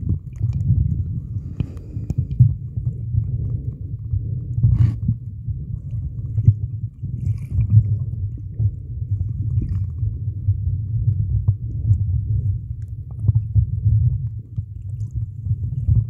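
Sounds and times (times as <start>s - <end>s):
underwater rumble of moving water: 0.0s - 16.0s.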